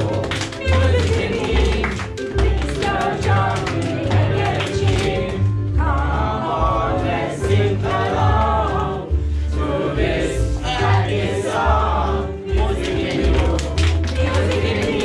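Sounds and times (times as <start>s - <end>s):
young choir singing pop song: 0.0s - 15.0s.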